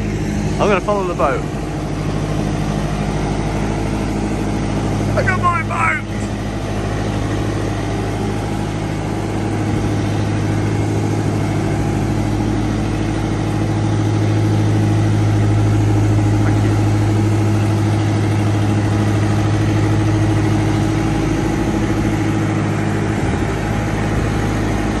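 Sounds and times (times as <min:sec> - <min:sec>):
boat hoist engine humming: 0:00.0 - 0:25.0.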